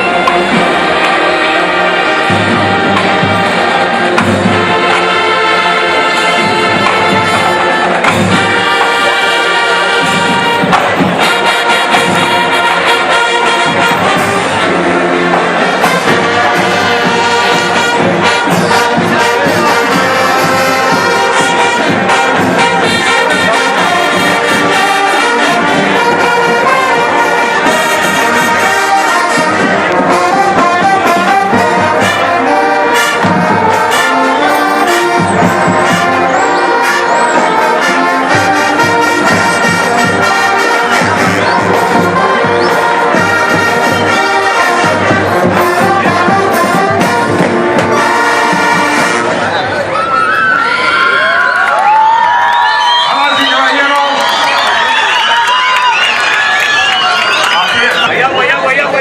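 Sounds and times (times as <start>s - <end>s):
brass horns playing chords: 0.0s - 49.9s
marching percussion: 0.0s - 49.9s.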